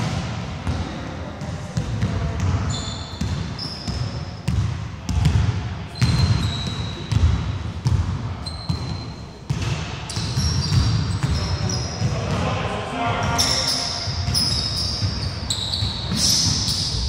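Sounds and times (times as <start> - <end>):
basketball bouncing on wooden court: 0.0 - 12.1, 13.3 - 17.0
sneakers squeaking on floor: 1.8 - 12.3, 13.2 - 17.0.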